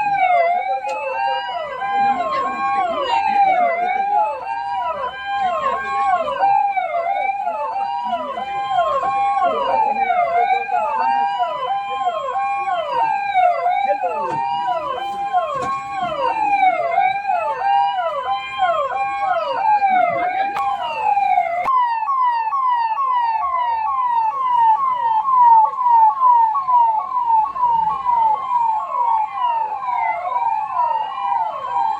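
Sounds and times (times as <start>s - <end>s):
siren wailing: 0.0s - 31.9s
siren yelping: 0.0s - 31.9s.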